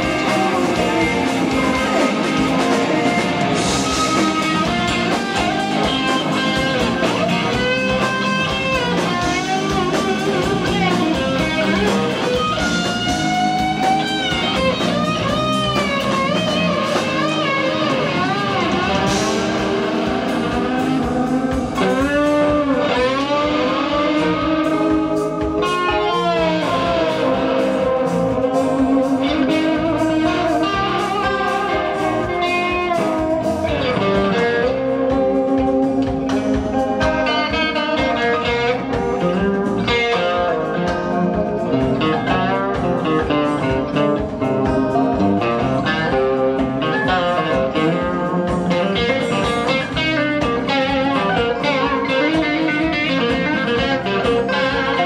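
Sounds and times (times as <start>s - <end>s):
drums: 0.0s - 55.0s
electric guitar solo: 0.0s - 55.0s
second guitar: 0.0s - 55.0s.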